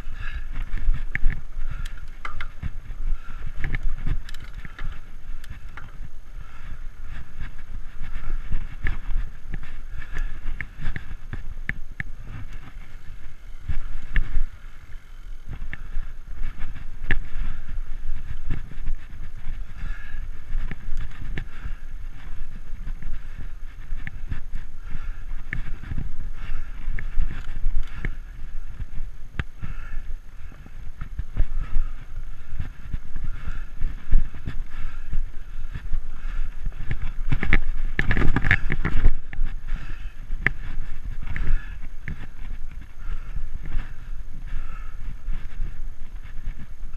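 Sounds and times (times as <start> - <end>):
bike rattling over bumps: 0.0 - 46.9
bike tires rumbling on dirt: 0.0 - 46.9.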